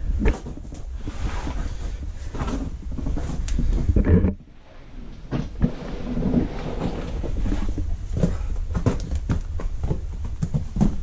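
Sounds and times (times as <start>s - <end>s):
low rumble on microphone: 0.0s - 11.0s.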